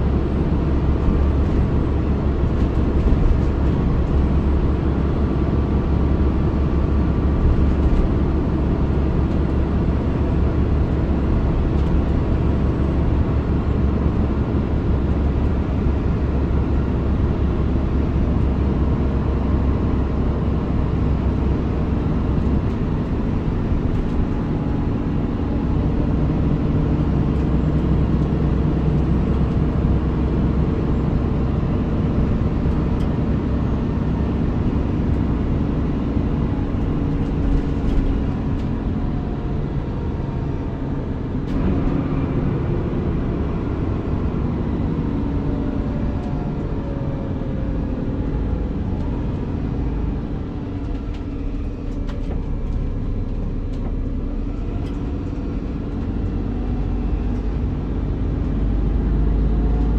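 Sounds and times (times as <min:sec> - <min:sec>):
bus diesel engine rumbling: 0:00.0 - 0:59.9.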